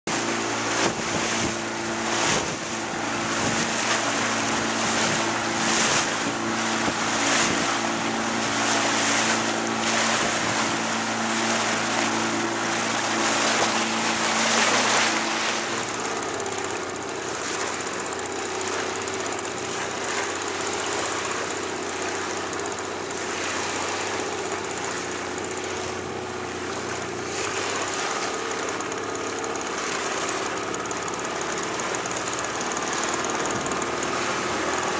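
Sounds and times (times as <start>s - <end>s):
small boat motor running: 0.0s - 34.9s
water rushing past hull: 0.1s - 34.9s.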